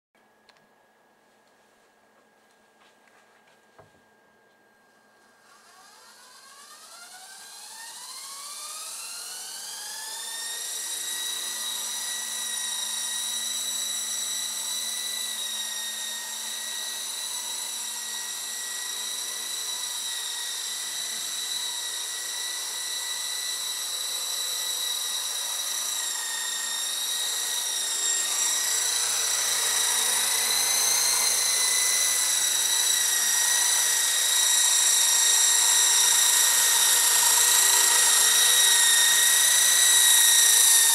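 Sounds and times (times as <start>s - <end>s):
rc helicopter motor whine: 5.3s - 40.9s.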